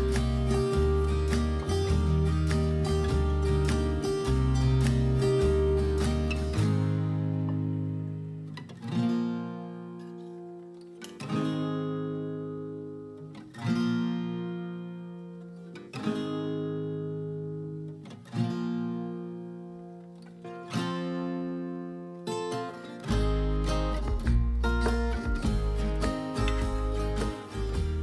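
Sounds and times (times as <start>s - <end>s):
acoustic guitar strummed chords: 0.0s - 28.0s.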